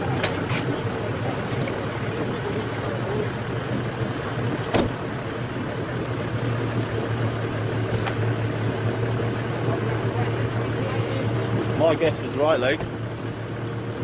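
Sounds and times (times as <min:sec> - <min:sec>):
vehicle engine running: 0:00.0 - 0:14.0
water rushing and splashing: 0:00.0 - 0:14.0.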